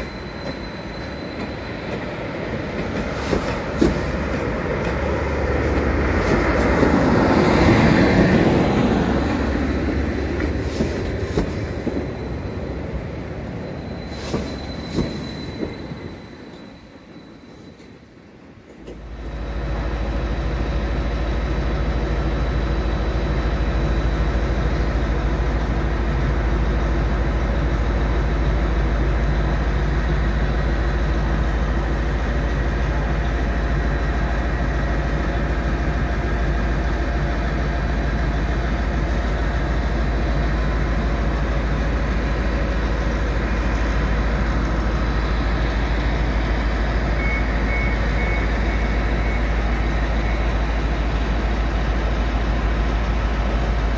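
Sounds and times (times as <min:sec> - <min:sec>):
train idling hum: 0:00.0 - 0:16.0, 0:18.1 - 0:53.9.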